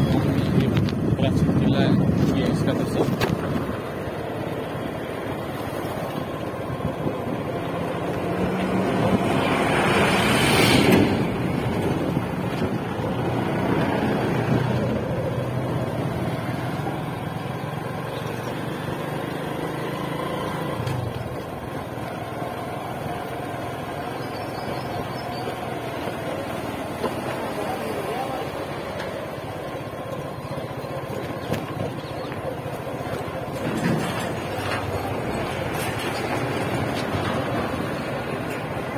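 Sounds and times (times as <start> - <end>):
motorcycle engine riding: 0.0 - 38.9.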